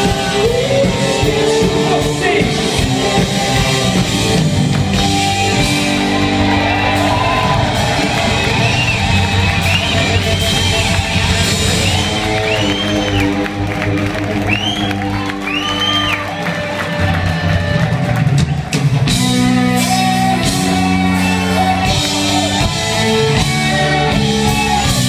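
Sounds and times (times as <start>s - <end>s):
rock band playing live: 0.0s - 25.0s.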